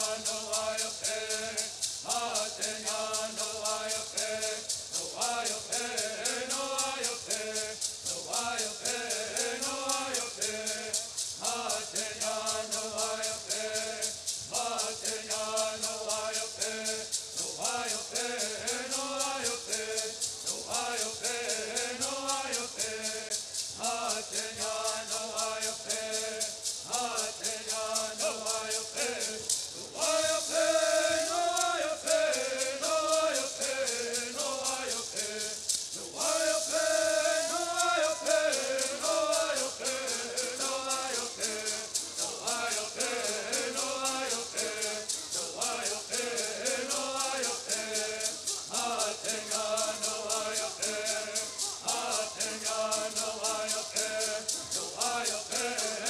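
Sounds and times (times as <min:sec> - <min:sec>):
gourd rattles shaking: 0:00.0 - 0:56.0
men chanting together: 0:00.0 - 0:56.0.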